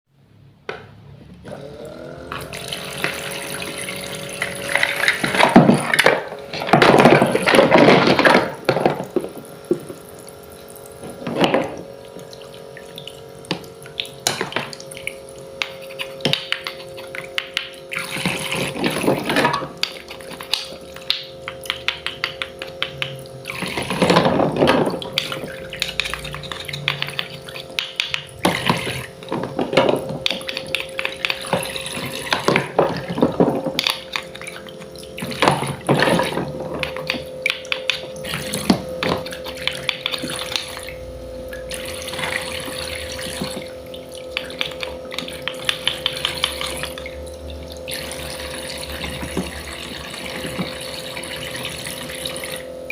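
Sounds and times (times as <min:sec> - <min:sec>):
steady hum: 0:00.2 - 0:52.9
water splashing in sink: 0:01.5 - 0:52.9
utensils clicking and tapping: 0:02.3 - 0:52.4.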